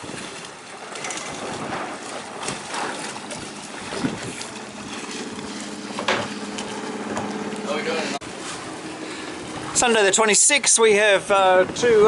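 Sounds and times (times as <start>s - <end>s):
water around boat: 0.0s - 12.0s
wind buffeting microphone: 0.0s - 12.0s
steady low hum: 0.2s - 10.6s.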